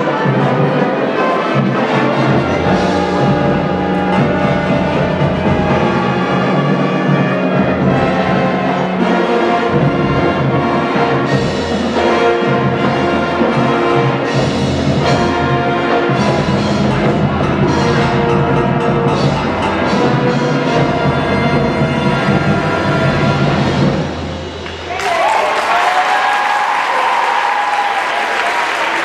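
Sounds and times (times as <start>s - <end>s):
marching band playing: 0.0s - 25.8s.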